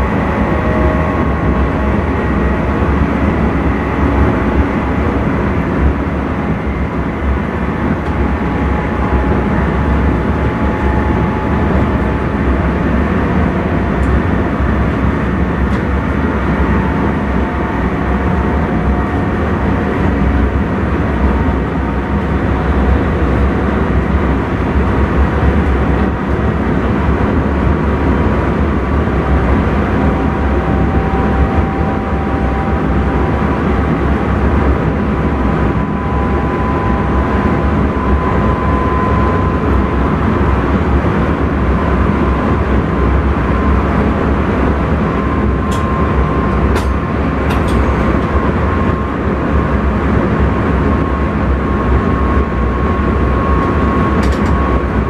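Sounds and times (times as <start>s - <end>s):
faint whine: 0.0s - 55.0s
train wheels rumbling on rail: 0.0s - 55.0s.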